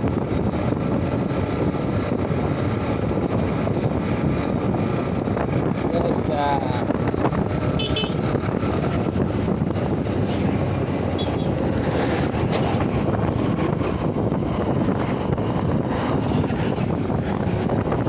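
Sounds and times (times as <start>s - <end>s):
motorcycle engine and road noise: 0.0s - 18.0s
wind rush on microphone: 0.0s - 18.0s.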